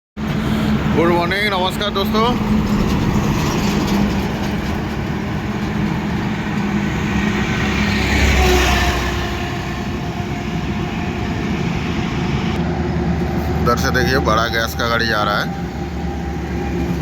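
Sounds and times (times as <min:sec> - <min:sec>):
highway traffic noise: 0:00.2 - 0:17.0
vehicle passing close by: 0:00.6 - 0:14.3.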